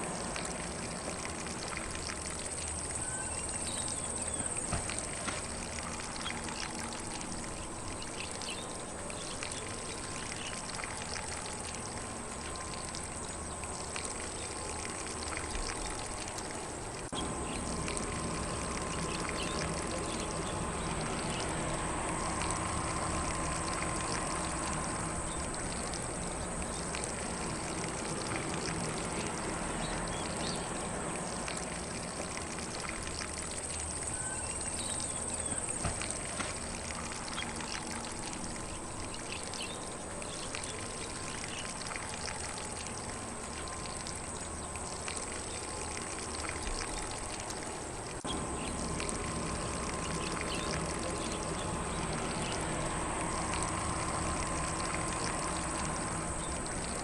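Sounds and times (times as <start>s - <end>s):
sprinkler spraying water: 0.0s - 57.0s.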